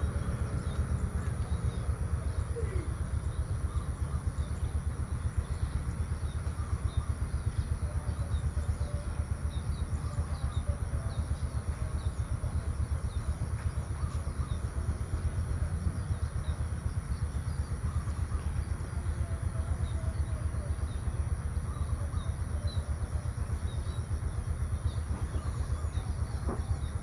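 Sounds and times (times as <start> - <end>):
wavering low rumble: 0.0 - 27.0
faint bird chirps: 0.1 - 27.0.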